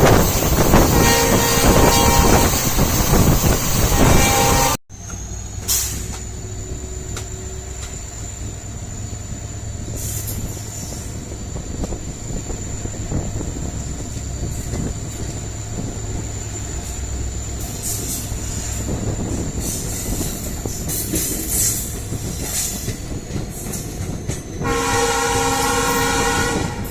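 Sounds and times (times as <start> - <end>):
locomotive engine humming: 0.0 - 26.9.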